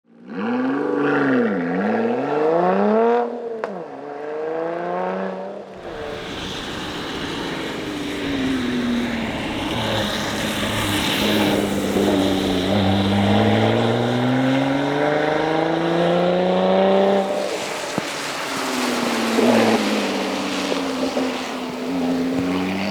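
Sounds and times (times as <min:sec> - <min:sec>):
road and wind noise: 0:00.1 - 0:22.9
car engine revving: 0:04.3 - 0:22.9.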